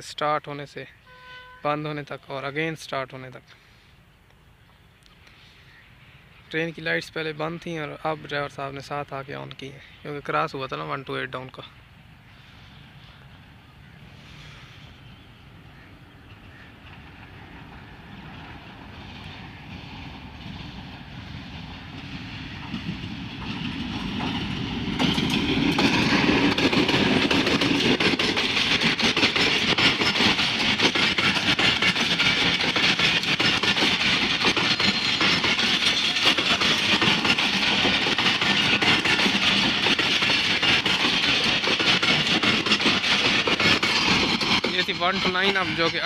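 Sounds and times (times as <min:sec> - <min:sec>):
diesel locomotive passing: 0:05.7 - 0:46.0
train coaches rumbling: 0:05.7 - 0:46.0.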